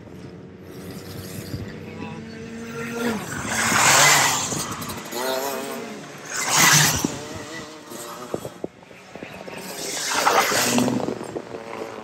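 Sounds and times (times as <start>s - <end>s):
racing kart engines: 0.0s - 12.0s.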